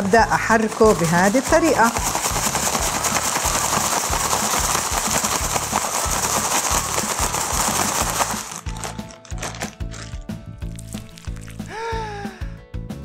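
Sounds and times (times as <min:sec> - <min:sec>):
plastic bag rustling: 0:00.0 - 0:11.8
background music with steady beat: 0:00.0 - 0:13.0.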